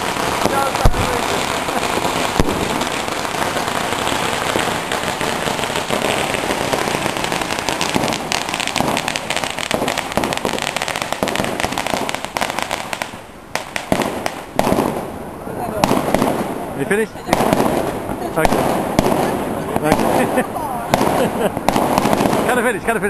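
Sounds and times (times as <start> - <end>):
firecrackers banging: 0.0 - 23.0.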